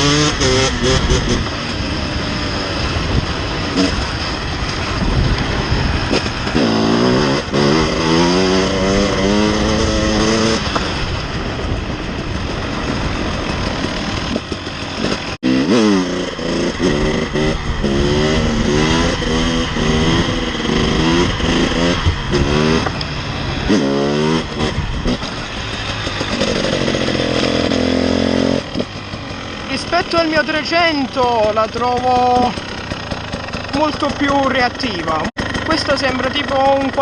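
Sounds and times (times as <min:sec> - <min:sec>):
two-stroke motorcycle engine revving: 0:00.0 - 0:37.0.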